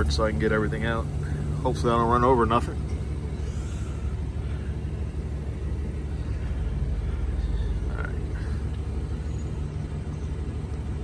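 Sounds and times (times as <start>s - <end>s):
truck engine running near idle: 0.0s - 11.0s.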